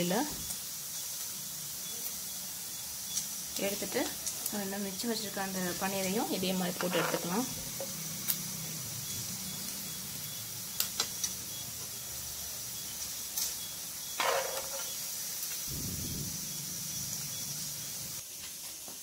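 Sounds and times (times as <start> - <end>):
oil sizzling in a pan: 0.0 - 19.0.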